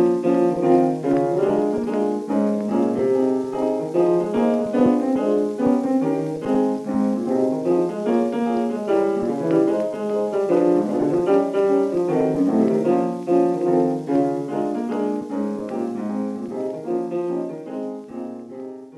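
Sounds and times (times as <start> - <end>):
piano music: 0.0 - 18.9.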